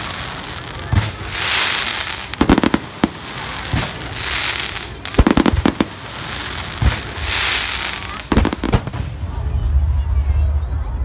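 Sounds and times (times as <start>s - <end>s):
fireworks hiss: 0.0s - 9.3s
fireworks bangs: 0.0s - 9.6s.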